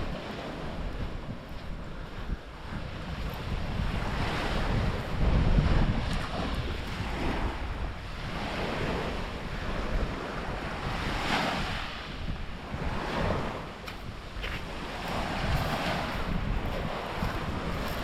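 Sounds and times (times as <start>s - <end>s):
sea waves washing onto beach: 0.0s - 18.0s
wind rumbling on microphone: 0.0s - 18.0s.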